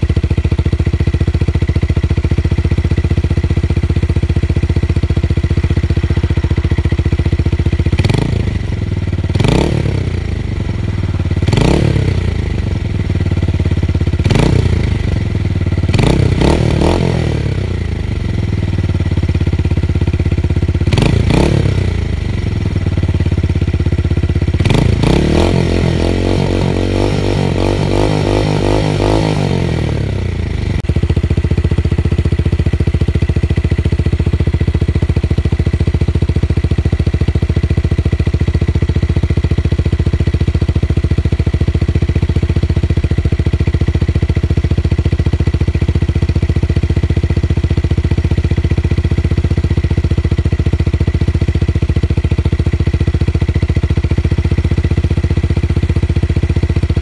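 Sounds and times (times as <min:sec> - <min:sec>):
motorcycle engine revving: 0:00.0 - 0:57.0
motorcycle engine running low: 0:00.0 - 0:57.0.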